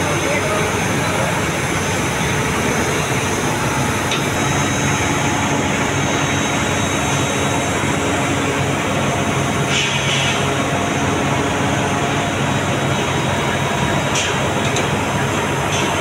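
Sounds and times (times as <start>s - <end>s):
crane diesel engine running: 0.0s - 16.0s.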